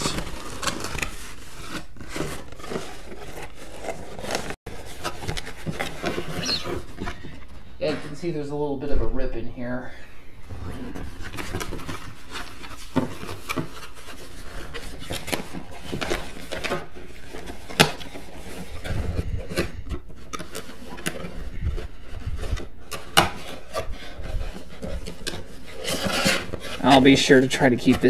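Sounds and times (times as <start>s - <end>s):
cardboard rubbing and scraping: 0.0s - 8.4s, 10.5s - 28.0s.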